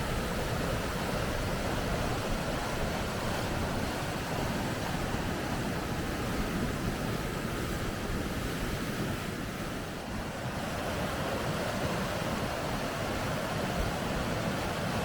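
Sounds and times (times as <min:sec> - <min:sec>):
water rushing over rapids: 0:00.0 - 0:15.0.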